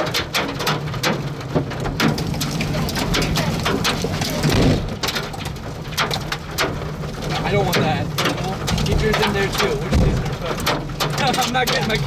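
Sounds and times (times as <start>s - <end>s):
rain and hail pelting: 0.0s - 12.0s.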